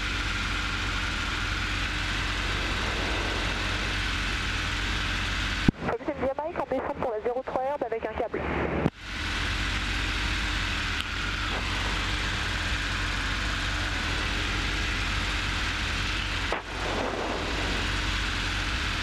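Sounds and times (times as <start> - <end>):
aircraft engine and propeller droning: 0.0 - 19.0.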